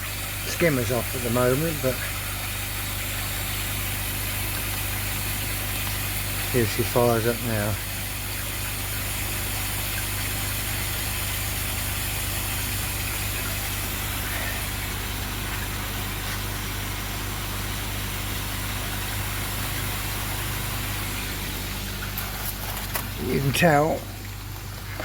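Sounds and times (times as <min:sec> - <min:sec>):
pump humming: 0:00.0 - 0:25.0
water running into pond: 0:00.0 - 0:25.0.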